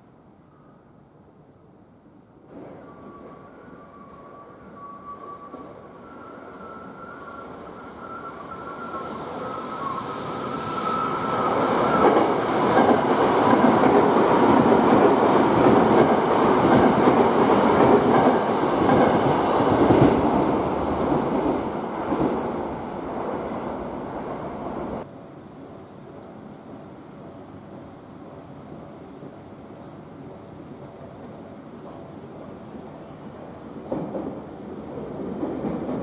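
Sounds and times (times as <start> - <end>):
electric train rail noise: 2.5 - 36.0.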